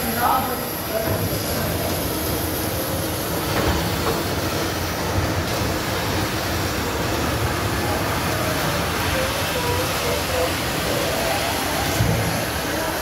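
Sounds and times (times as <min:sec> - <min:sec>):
floor scrubber mechanical drone: 0:00.0 - 0:13.0.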